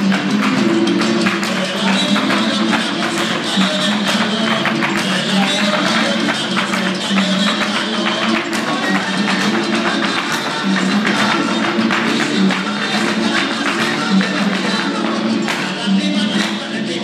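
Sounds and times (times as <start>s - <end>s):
dancers' shoes tapping on floor: 0.0s - 17.0s
folk-dance music over loudspeaker: 0.0s - 17.0s.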